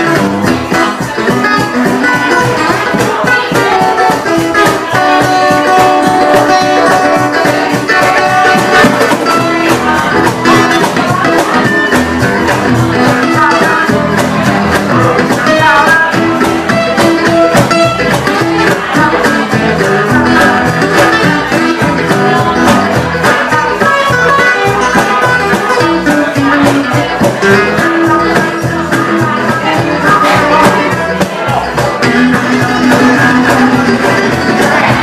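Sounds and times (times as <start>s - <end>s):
acoustic guitars strumming: 0.0s - 35.0s
percussion beat: 0.0s - 35.0s.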